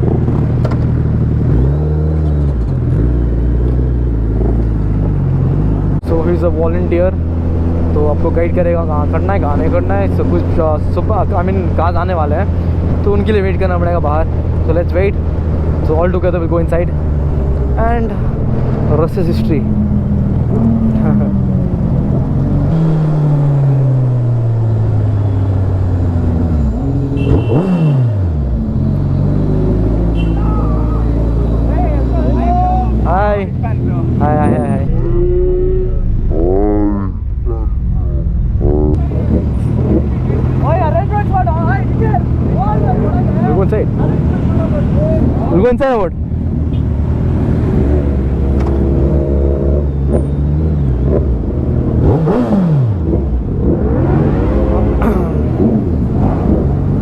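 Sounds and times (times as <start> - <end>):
vehicle engine revving and idling: 0.0 - 57.0.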